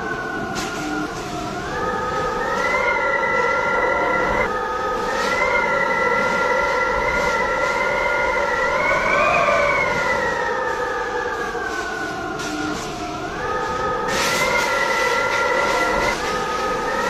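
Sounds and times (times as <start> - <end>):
strong wind howling and whistling: 0.0 - 17.0.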